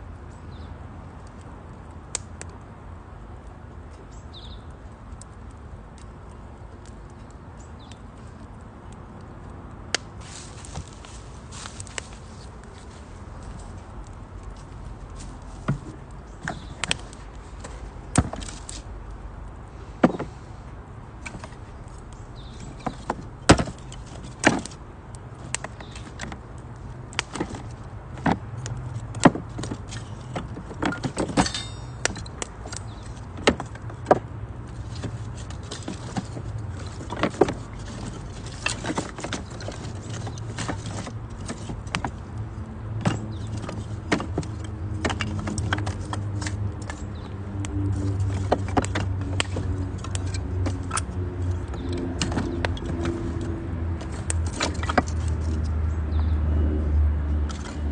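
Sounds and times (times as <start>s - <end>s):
wood fire crackling: 1.0s - 55.6s
fire popping: 4.8s - 53.4s.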